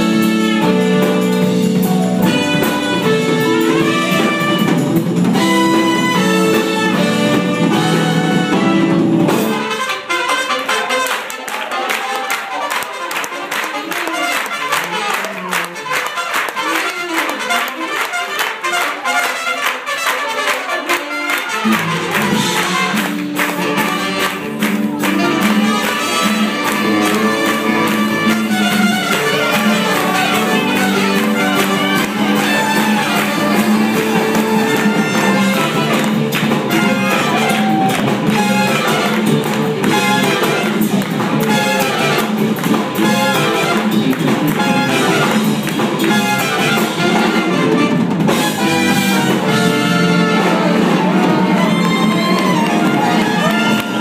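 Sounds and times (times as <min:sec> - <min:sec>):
saxophone: 0:00.0 - 0:11.3, 0:12.5 - 0:54.0
jazz fusion band playing: 0:00.0 - 0:54.0
trumpets: 0:00.0 - 0:54.0.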